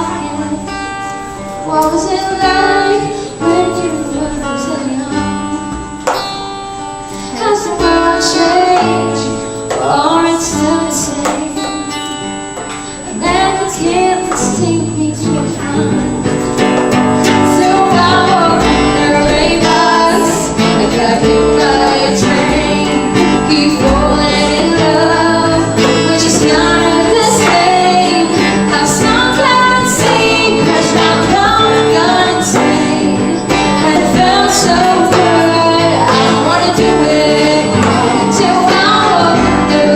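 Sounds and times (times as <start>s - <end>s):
woman singing: 0.0s - 6.2s, 7.2s - 39.9s
acoustic guitar: 0.0s - 39.9s.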